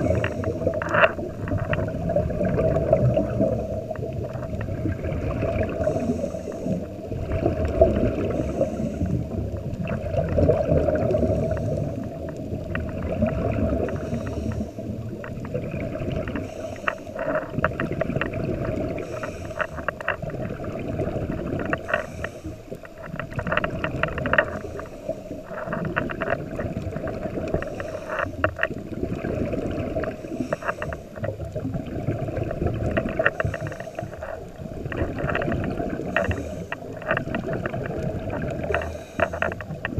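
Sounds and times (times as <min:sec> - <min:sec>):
crackling clicks: 0:00.0 - 0:39.9
muffled underwater rumble: 0:00.0 - 0:39.9
regulator bubbles gurgling: 0:00.0 - 0:39.9.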